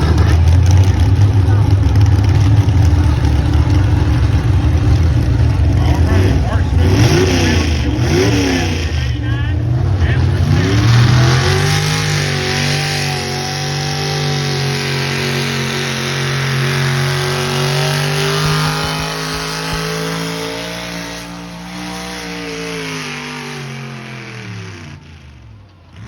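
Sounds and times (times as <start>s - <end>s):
vehicle engine revving under load: 0.0s - 26.0s.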